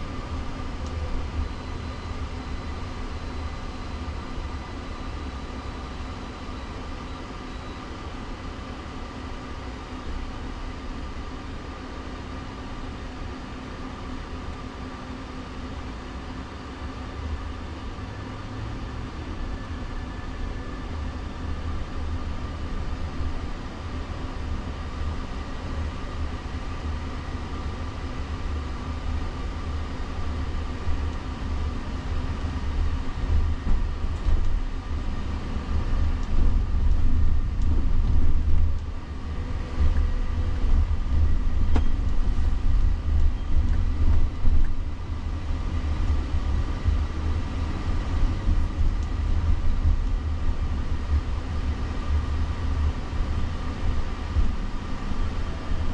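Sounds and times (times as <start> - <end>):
road and tyre rumble: 0.0 - 55.9.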